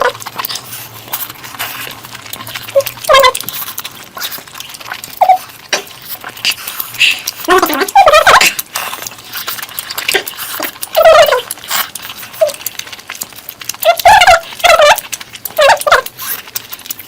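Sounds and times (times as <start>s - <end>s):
mouth clicks: 0.0s - 17.0s
wet chewing: 0.0s - 17.0s.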